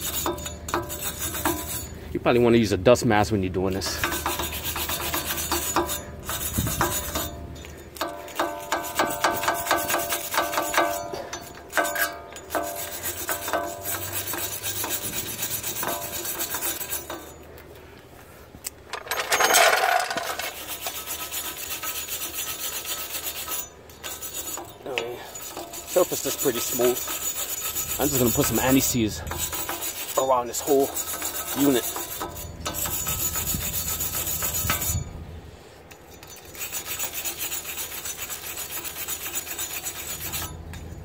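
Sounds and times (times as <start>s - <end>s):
metal scraper scraping rust: 0.0s - 2.5s, 3.5s - 17.6s, 18.9s - 35.2s, 35.8s - 41.0s.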